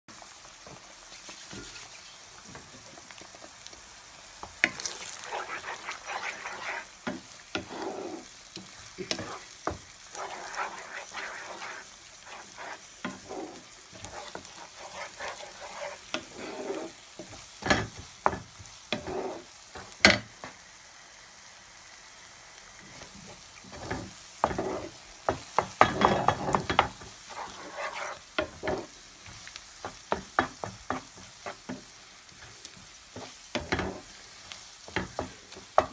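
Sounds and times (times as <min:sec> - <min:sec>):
eggs sizzling in a pan: 0:00.1 - 0:35.9
wooden spatula scraping and knocking pan: 0:00.7 - 0:02.8, 0:04.5 - 0:20.3, 0:23.7 - 0:34.2, 0:34.8 - 0:35.9.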